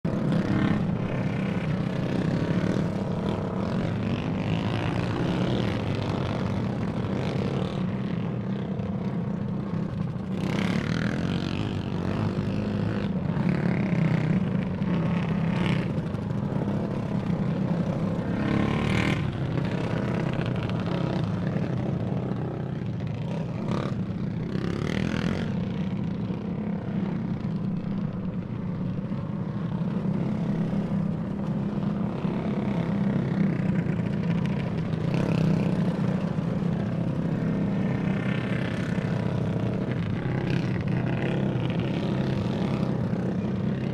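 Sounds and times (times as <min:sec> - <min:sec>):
go-kart engines racing: 0:00.1 - 0:43.9.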